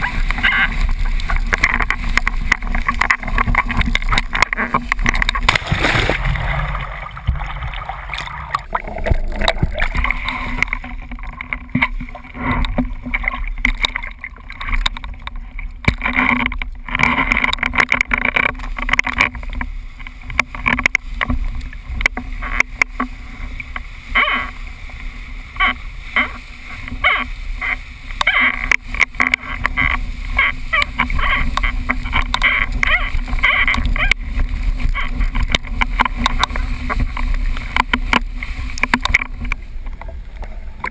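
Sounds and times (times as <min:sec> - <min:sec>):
water rushing and splashing: 0:00.0 - 0:40.9.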